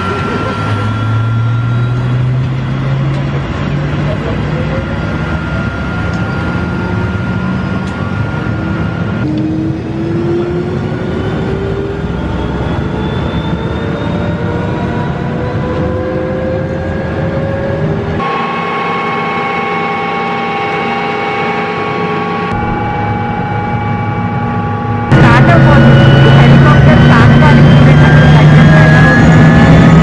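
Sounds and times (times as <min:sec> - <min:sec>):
helicopter turbine spooling up: 0:00.0 - 0:30.0.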